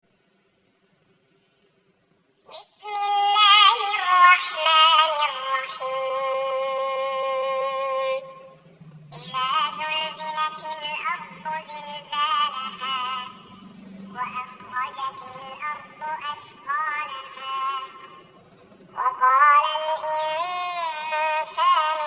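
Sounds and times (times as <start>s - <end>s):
synthetic voice chanting: 2.5s - 22.0s.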